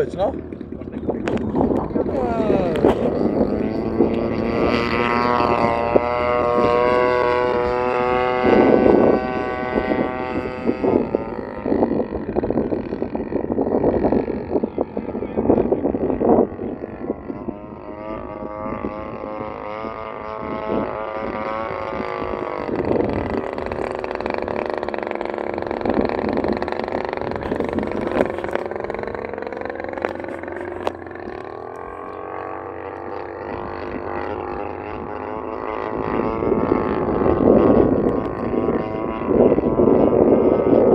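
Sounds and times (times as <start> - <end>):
gusty wind noise: 0.0 - 40.9
model airplane motor droning: 0.0 - 40.9.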